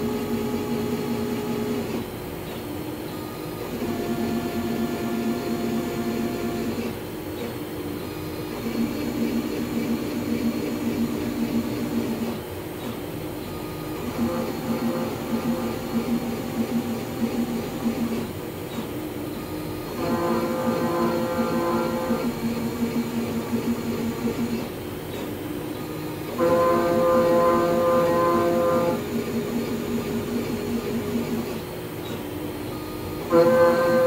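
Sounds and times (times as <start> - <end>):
milling machine motors whining: 3.1 - 7.0, 8.0 - 34.0.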